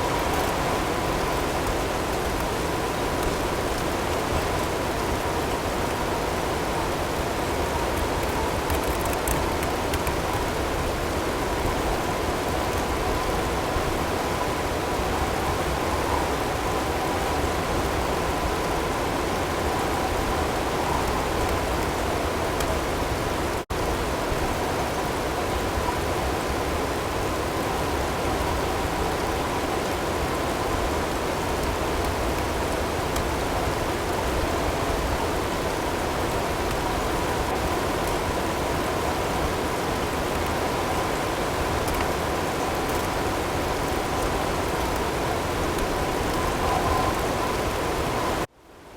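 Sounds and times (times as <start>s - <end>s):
storm wind and blowing snow: 0.0s - 48.5s.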